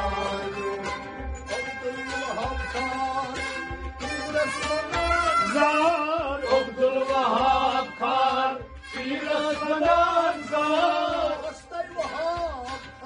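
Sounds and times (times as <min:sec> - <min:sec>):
man singing: 0:00.0 - 0:13.0
musical accompaniment: 0:00.0 - 0:13.0.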